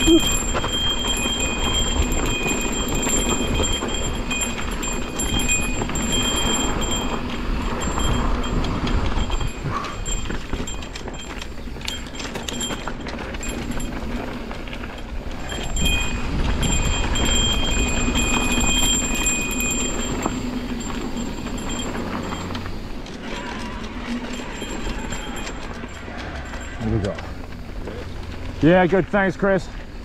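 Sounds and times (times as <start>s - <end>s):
wind rumbling on microphone: 0.0s - 28.6s
bike rattling and knocking: 0.0s - 30.0s
bike tyres rolling on dirt: 0.0s - 30.0s.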